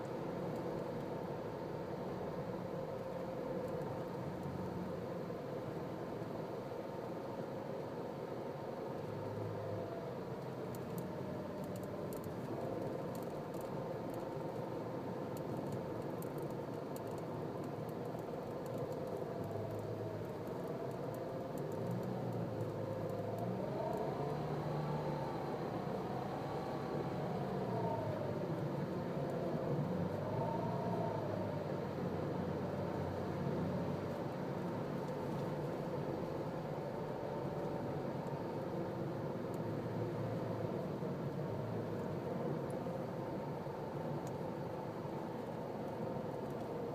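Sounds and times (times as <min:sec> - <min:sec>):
road and engine noise: 0:00.0 - 0:46.9.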